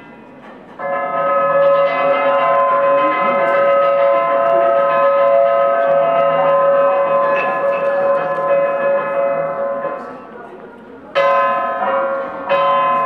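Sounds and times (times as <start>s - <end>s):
bell-like metal ringing: 0.0s - 10.5s, 11.2s - 13.0s.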